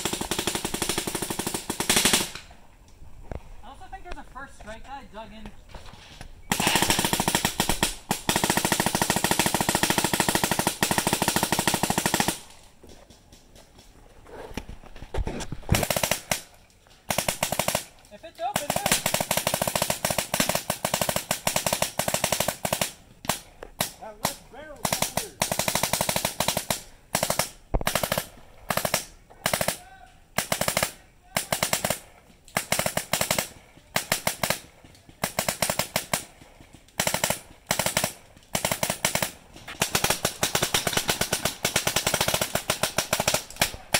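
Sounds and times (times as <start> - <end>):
paintball marker firing rapid shots: 0.0 - 2.4, 6.5 - 12.5, 15.7 - 29.8, 30.4 - 43.9.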